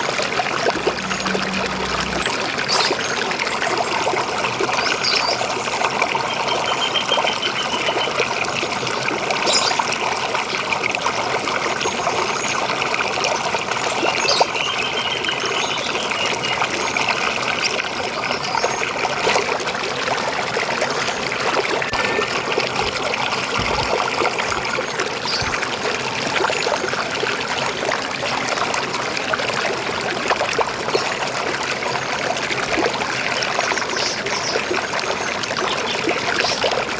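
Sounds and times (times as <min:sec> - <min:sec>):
river water flowing: 0:00.0 - 0:36.9.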